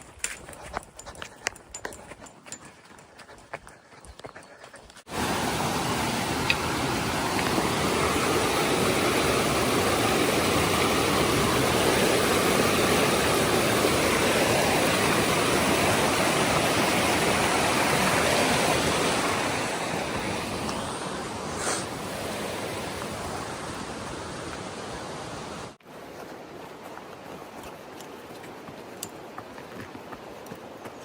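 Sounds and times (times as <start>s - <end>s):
mountain stream rushing: 5.1s - 31.0s.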